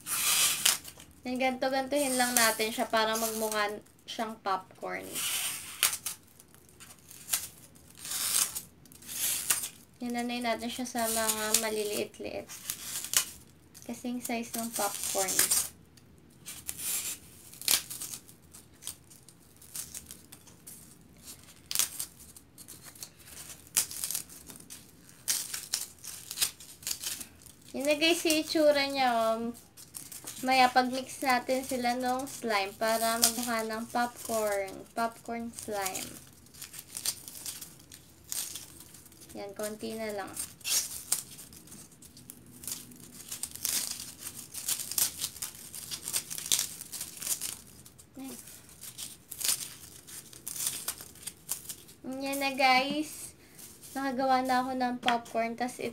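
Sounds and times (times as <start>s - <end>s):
styrofoam crackling and tearing: 0.0s - 55.8s.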